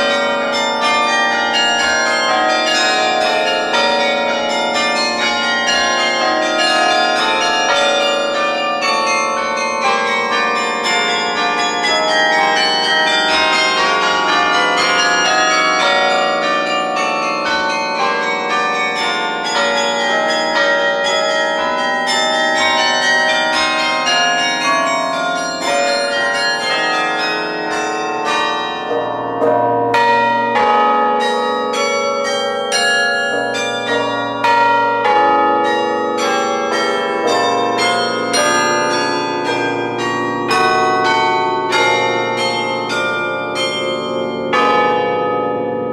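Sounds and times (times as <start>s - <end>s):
carillon bells ringing: 0.0s - 45.9s.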